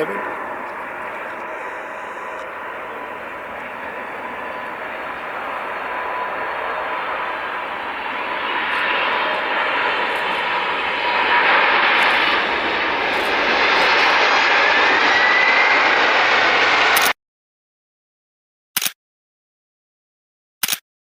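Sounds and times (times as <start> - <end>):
faint rising whine: 0.0 - 17.0
jet engines roaring: 0.0 - 17.1.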